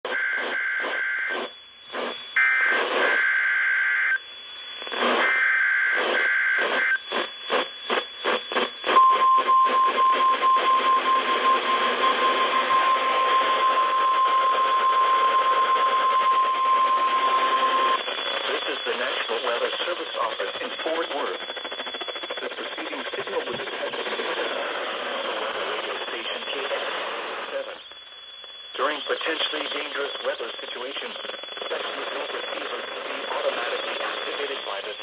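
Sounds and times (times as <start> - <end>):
crackling radio static: 0.0 - 35.0
steady alarm tone: 0.2 - 35.0.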